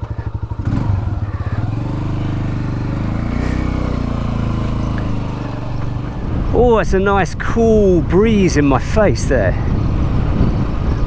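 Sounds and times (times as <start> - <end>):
motorcycle engine revving: 0.0 - 8.2, 9.4 - 11.0.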